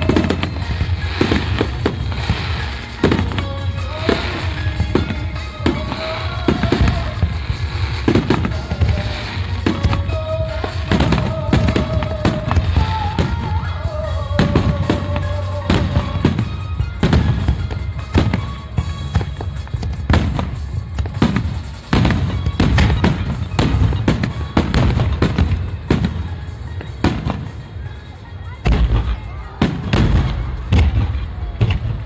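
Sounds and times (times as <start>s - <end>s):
firework shells bursting: 0.0s - 27.6s.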